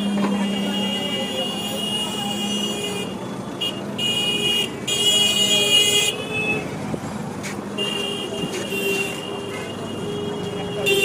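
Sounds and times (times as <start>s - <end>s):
vehicle horns honking: 0.0s - 6.8s, 7.7s - 11.0s
traffic background: 0.0s - 11.0s.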